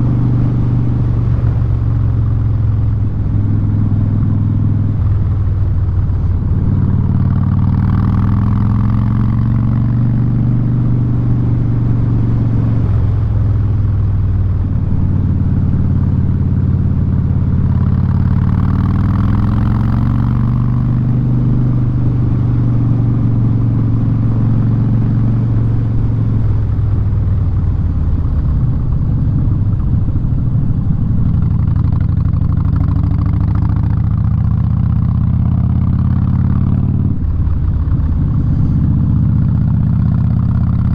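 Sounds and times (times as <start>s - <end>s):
motorcycle engine running loud: 0.0s - 40.9s.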